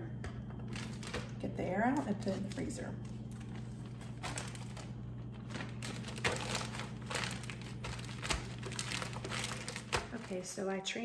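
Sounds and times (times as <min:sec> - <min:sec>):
plastic bag crinkling: 0:00.7 - 0:10.6.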